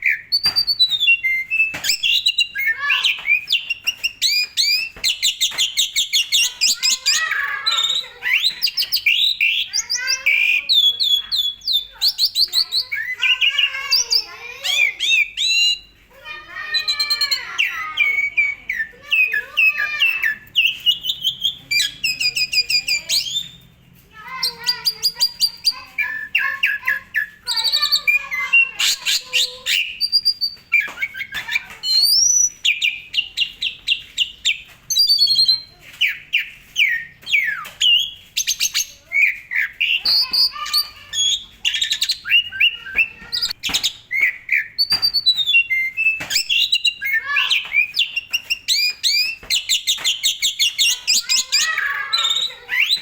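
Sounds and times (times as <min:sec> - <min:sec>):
starling singing: 0:00.0 - 0:53.0.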